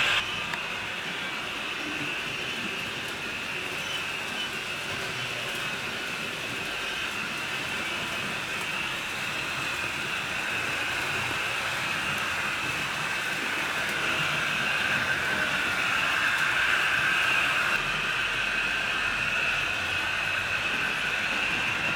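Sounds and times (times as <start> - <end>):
model train motor whirring: 0.0 - 21.9.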